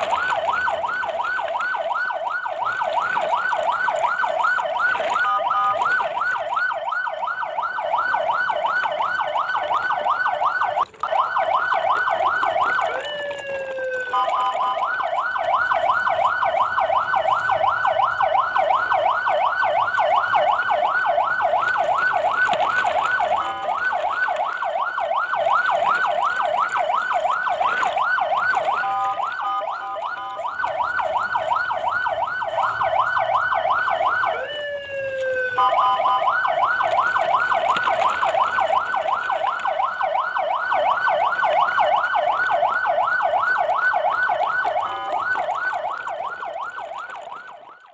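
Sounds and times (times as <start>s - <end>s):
siren yelping: 0.0s - 47.9s.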